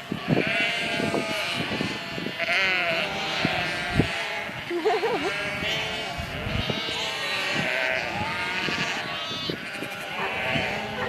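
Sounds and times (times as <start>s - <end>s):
goats bleating: 0.0s - 11.0s.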